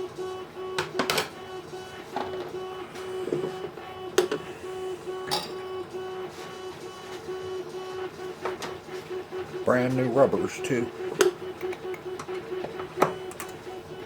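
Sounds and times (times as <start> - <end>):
printer stepper motors pulsing: 0.0 - 14.0.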